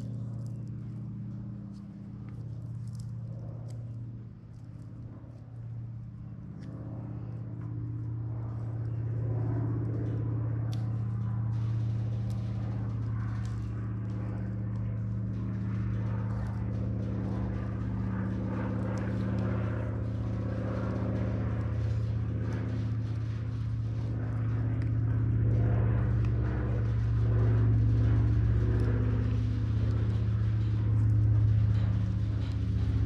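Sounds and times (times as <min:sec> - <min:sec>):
engine hum: 0:00.0 - 0:33.0.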